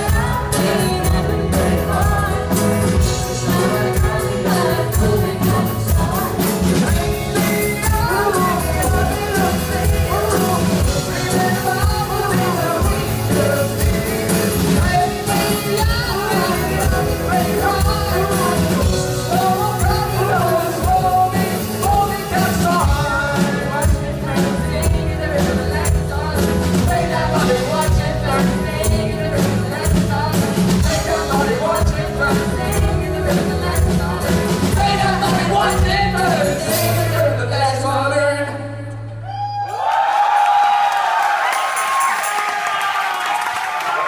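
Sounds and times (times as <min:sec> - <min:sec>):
drums steady beat: 0:00.0 - 0:37.4
live rock band with singer: 0:00.0 - 0:39.7.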